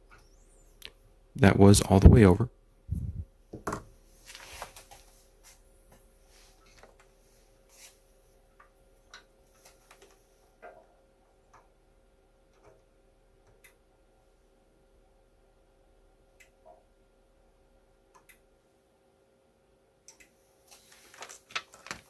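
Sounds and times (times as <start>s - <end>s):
faint steady hum: 0.0s - 21.7s.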